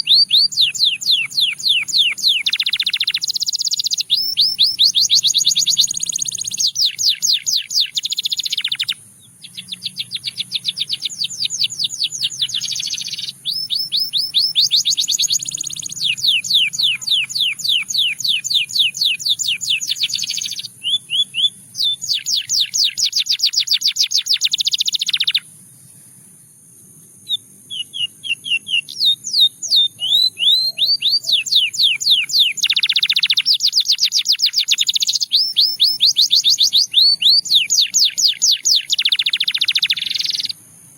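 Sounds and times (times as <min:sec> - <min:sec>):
canary singing trills: 0:00.0 - 0:26.2, 0:27.2 - 0:40.6.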